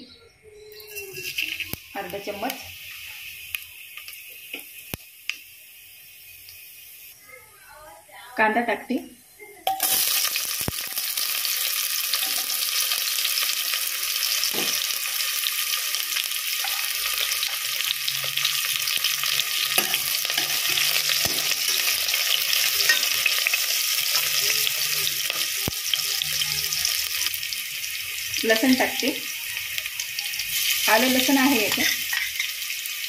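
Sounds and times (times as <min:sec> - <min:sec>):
onion sizzling in hot oil: 0:00.7 - 0:08.9, 0:09.6 - 0:33.0.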